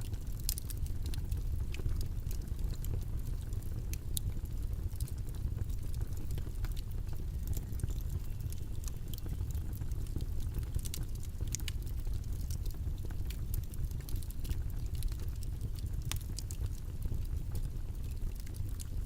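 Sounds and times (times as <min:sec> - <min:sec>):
low-pitched white noise rumble: 0:00.0 - 0:19.0.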